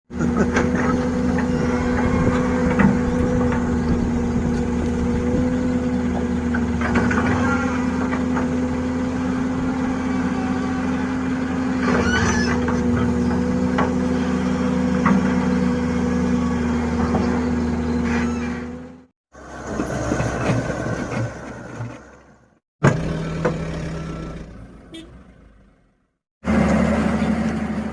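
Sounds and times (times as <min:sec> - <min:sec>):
excavator diesel engine running: 0:00.1 - 0:24.7, 0:26.4 - 0:27.9.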